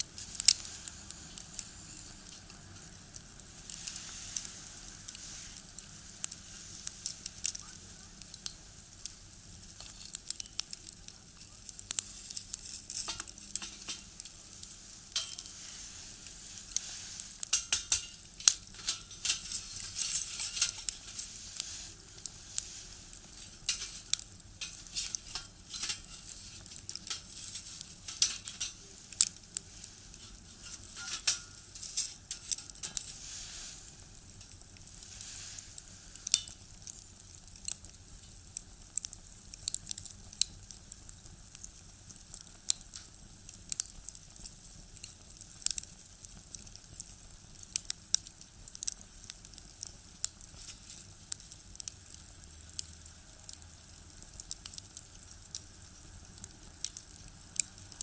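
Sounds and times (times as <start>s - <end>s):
firewood crackling in a stove: 0.0s - 58.0s
soft hiss: 0.0s - 58.0s.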